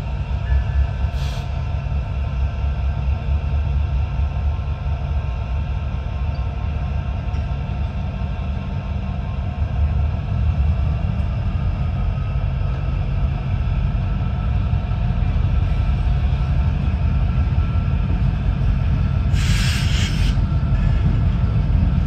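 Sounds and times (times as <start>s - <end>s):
freight train cars rumbling: 0.0s - 22.0s.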